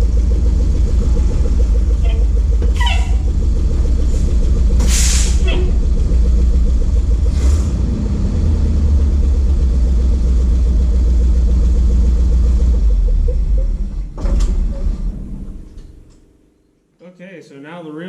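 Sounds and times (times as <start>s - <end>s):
truck engine running: 0.0s - 16.2s.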